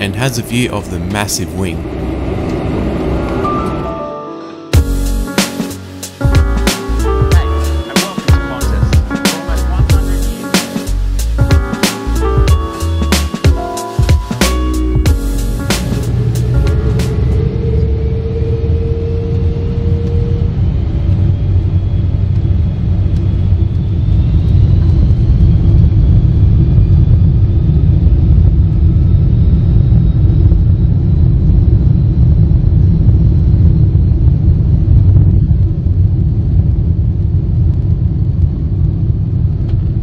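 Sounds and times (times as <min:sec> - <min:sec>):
jet engines spooling up: 0:00.0 - 0:40.0.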